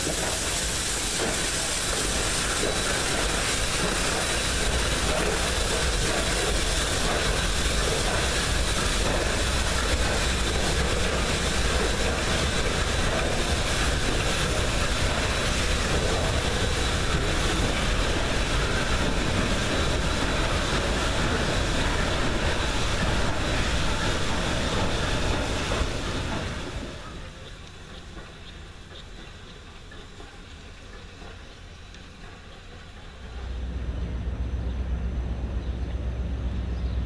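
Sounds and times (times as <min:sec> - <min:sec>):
steam hissing: 0:00.0 - 0:36.5
steam locomotive rumbling: 0:00.0 - 0:37.0
wheels clattering on rails: 0:00.0 - 0:37.0.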